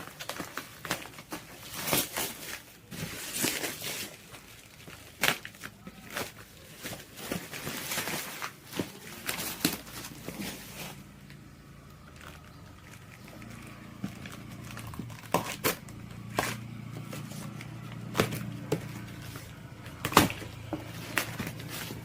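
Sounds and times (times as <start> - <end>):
plastic wrapping rustling: 0.0 - 22.0.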